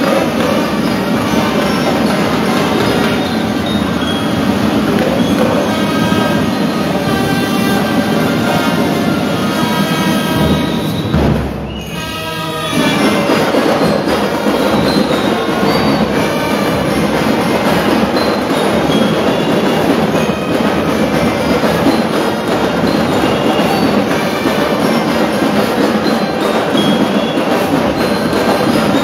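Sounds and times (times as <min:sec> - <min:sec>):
drums beating: 0:00.0 - 0:29.0
marching band playing: 0:00.0 - 0:29.0.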